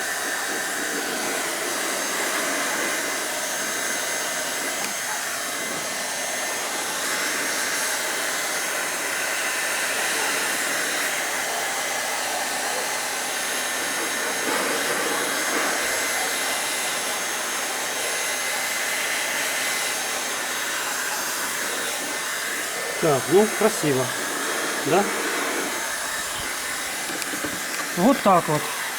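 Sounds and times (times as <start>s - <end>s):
heat gun blowing air: 0.0s - 28.9s.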